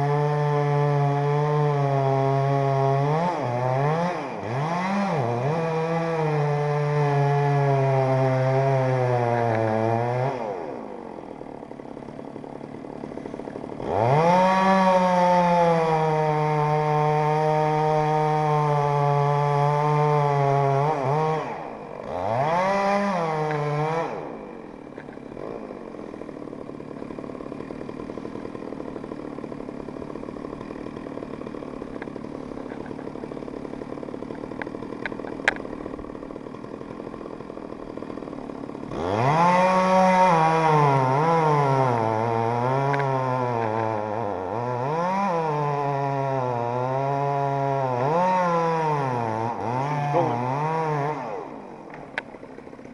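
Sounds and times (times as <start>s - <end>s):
chainsaw cutting wood: 0.0s - 52.9s
chainsaw revving and idling: 0.0s - 52.9s.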